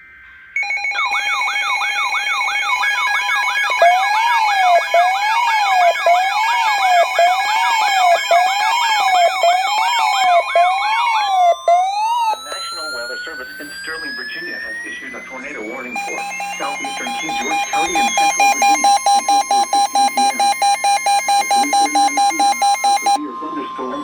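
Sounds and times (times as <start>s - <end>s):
electronic siren wail and yelp: 0.6s - 24.0s.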